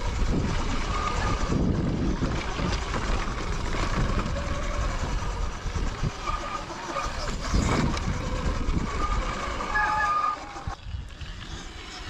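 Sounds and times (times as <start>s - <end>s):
faint electric motor whine: 0.0s - 12.0s
tyres rumbling over rocks: 0.0s - 12.0s
wind buffeting microphone: 0.0s - 12.0s.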